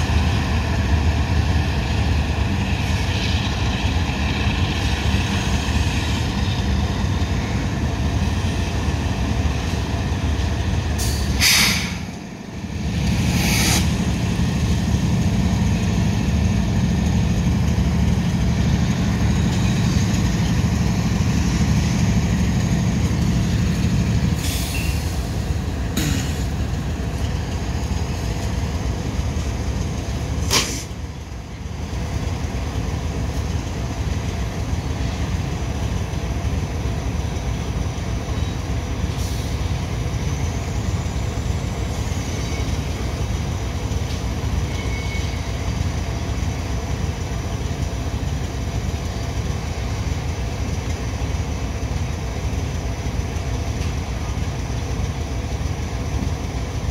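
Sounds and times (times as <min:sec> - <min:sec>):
diesel locomotive engine drone: 0:00.0 - 0:56.9
rolling train noise: 0:00.0 - 0:56.9.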